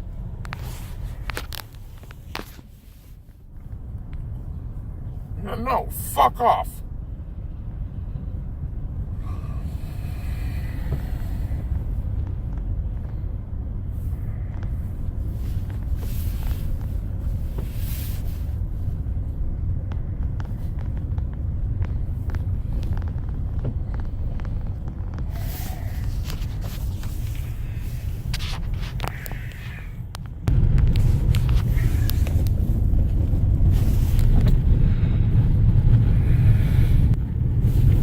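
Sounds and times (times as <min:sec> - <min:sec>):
road and engine rumble: 0:00.0 - 0:38.0.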